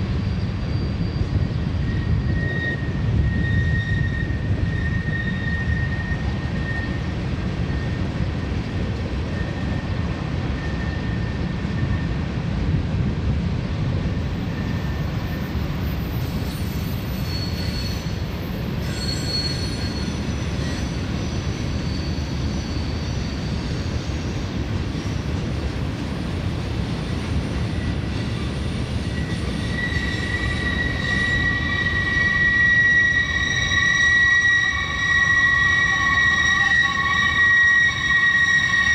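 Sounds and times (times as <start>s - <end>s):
high wheel squeals: 0.0s - 8.6s, 9.2s - 12.2s, 14.3s - 25.5s, 26.8s - 38.9s
train wheels rumbling on rail: 0.0s - 38.9s.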